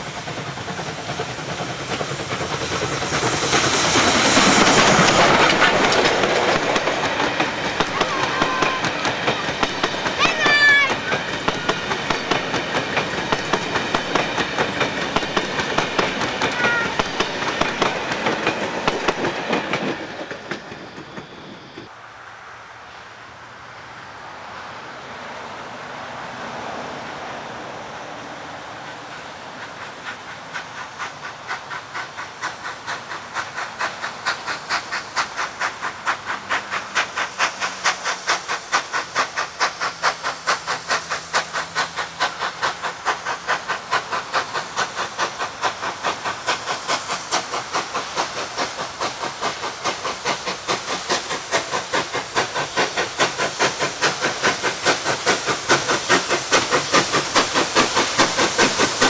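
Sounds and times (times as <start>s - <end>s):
steam locomotive chuffing: 0.0s - 22.0s, 24.6s - 59.0s
train rolling over rails: 0.0s - 59.0s.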